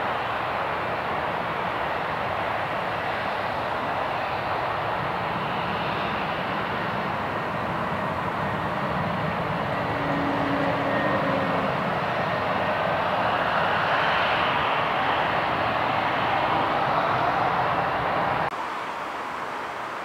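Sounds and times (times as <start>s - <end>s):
jet airliner engines rushing: 0.0s - 20.0s.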